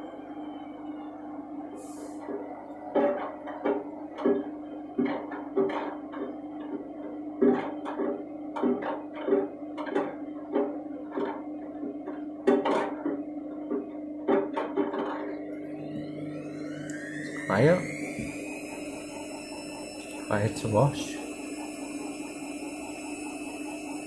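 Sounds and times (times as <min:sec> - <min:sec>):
washing machine motor hum: 0:00.0 - 0:24.0.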